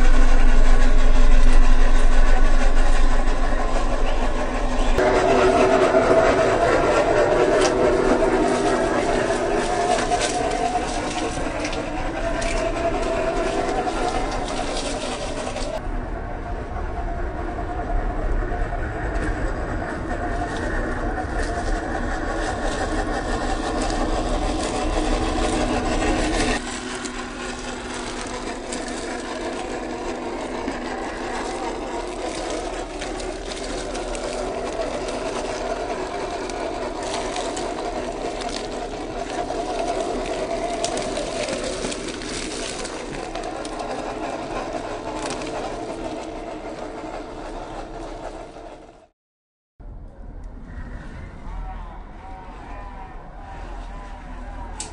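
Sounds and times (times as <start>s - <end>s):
electric motor and gearbox whining: 0.0s - 15.8s, 19.1s - 49.0s
tyres crackling on gravel: 0.0s - 15.8s, 19.1s - 48.7s.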